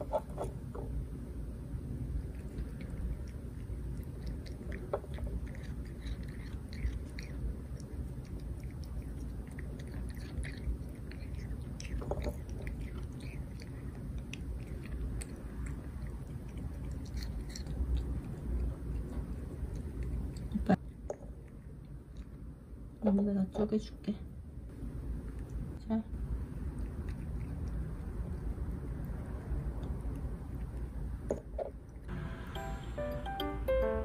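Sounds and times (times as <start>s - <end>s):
cat chewing crunchy food: 0.0s - 23.0s, 24.9s - 32.1s.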